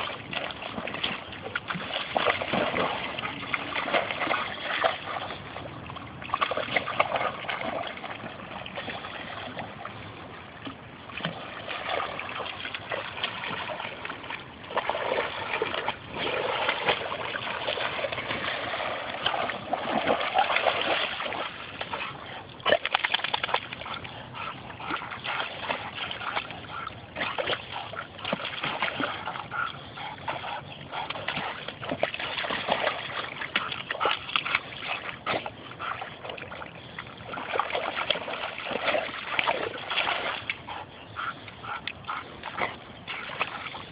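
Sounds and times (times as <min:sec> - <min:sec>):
dog splashing in shallow water: 0:00.0 - 0:43.9.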